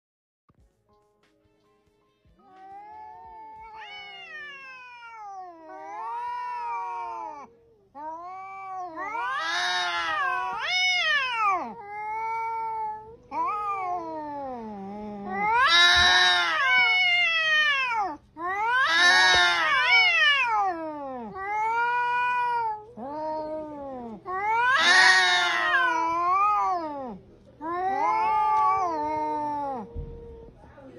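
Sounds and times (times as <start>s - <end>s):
cats yowling: 2.4s - 30.6s.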